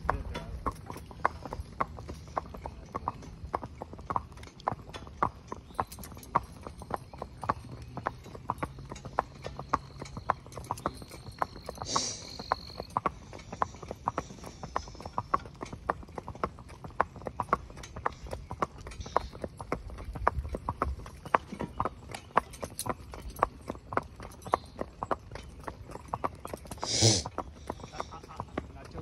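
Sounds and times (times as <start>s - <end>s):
horse hooves on wet asphalt: 0.0s - 29.0s.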